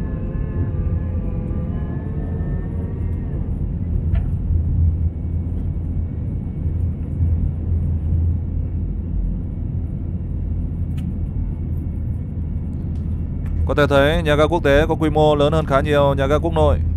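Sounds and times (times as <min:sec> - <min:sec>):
jet engines and airflow in cabin: 0:00.0 - 0:16.9.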